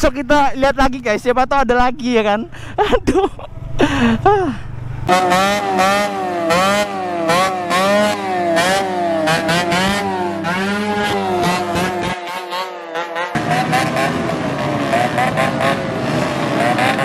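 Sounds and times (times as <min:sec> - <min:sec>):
two-stroke motorcycles revving: 0:02.5 - 0:17.0.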